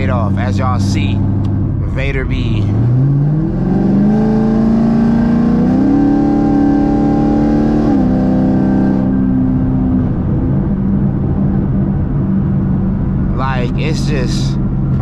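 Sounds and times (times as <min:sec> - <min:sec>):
car engine and exhaust drone: 0:00.0 - 0:15.0.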